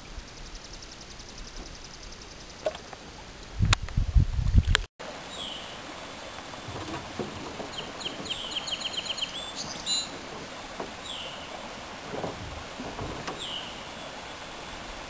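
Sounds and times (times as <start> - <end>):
songbird calling: 0.0 - 3.6, 5.2 - 15.0.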